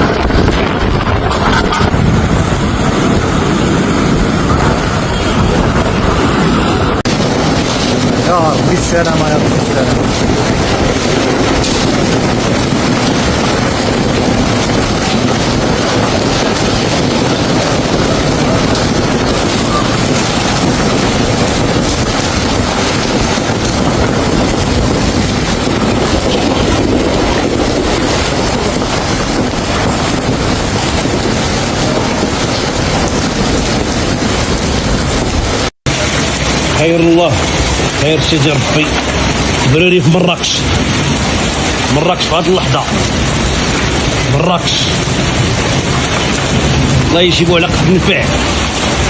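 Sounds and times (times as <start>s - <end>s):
heavy rain and hail pelting: 0.0s - 49.0s
wind rumbling on microphone: 0.0s - 49.0s.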